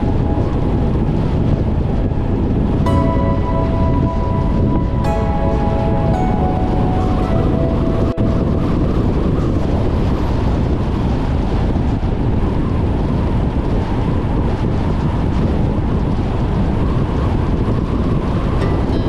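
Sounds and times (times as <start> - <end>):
wind rumble: 0.0 - 19.0.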